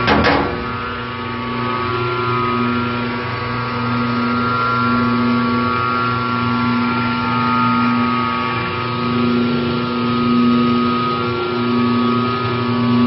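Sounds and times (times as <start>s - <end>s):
electric motor and gearbox humming: 0.0s - 13.0s.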